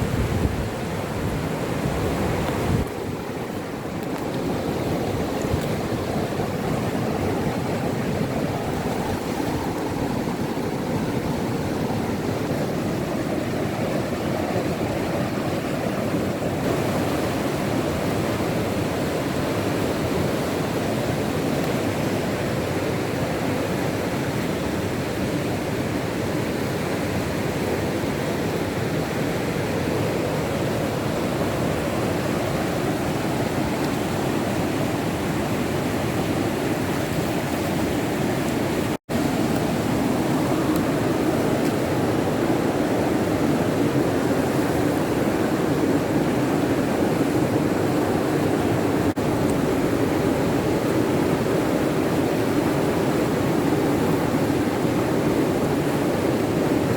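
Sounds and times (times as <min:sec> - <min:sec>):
water rushing over rocks: 0:00.0 - 0:56.9.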